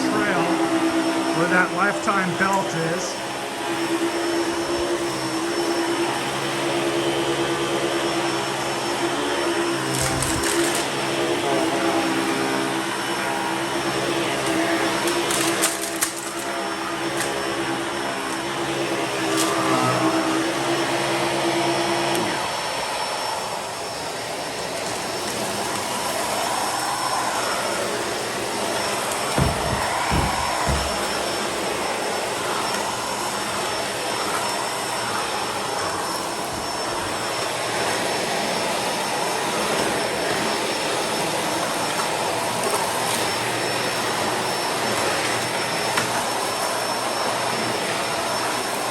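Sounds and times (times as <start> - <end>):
upright vacuum running: 0.0 - 48.9.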